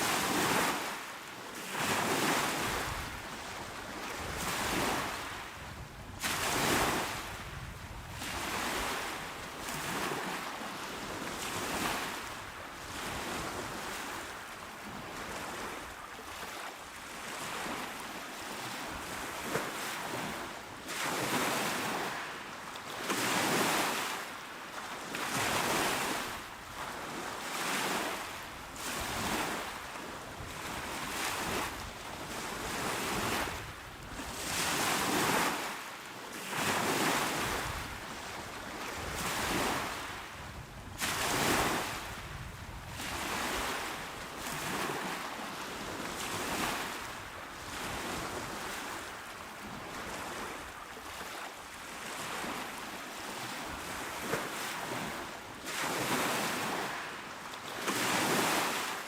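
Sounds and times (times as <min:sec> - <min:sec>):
calm sea waves washing ashore: 0:00.0 - 0:59.0.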